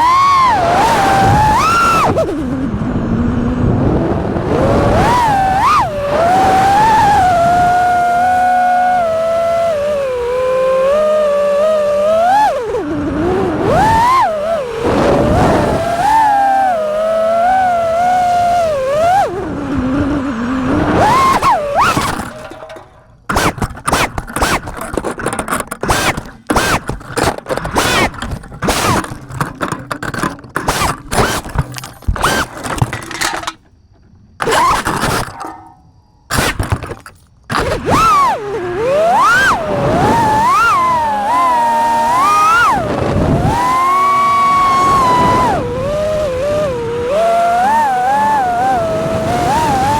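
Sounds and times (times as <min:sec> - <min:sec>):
drone motors whining: 0:00.0 - 0:49.9.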